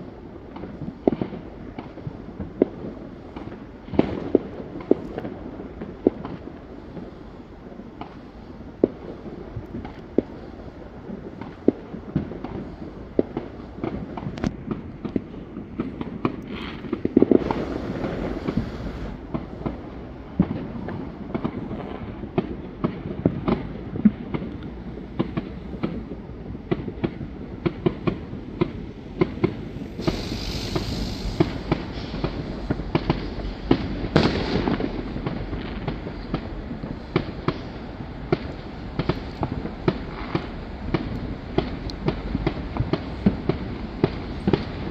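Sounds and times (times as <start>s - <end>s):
fireworks bangs and pops: 0.0s - 44.9s
fireworks crackling bursts: 0.0s - 44.9s.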